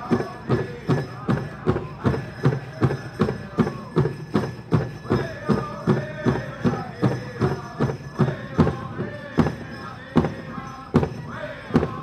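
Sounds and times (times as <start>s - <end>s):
group singing: 0.0s - 4.0s, 4.8s - 12.0s
drum beaten in steady beat: 0.0s - 12.0s.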